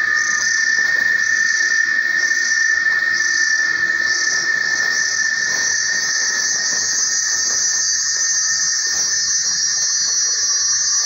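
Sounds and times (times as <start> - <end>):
cicada buzzing: 0.0 - 11.0
lower insect tone: 0.0 - 11.0.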